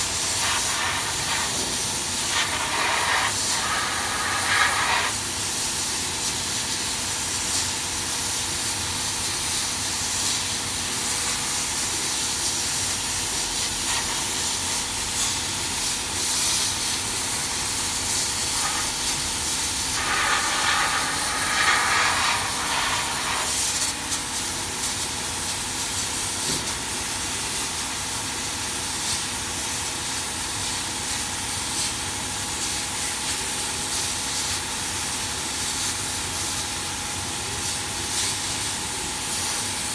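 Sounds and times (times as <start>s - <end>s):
laser cutter air hiss: 0.0s - 39.9s.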